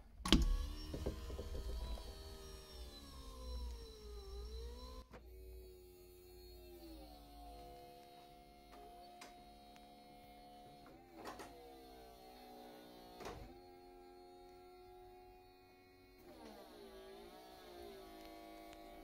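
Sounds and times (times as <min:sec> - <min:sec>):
electric motor hum: 0:00.0 - 0:19.0.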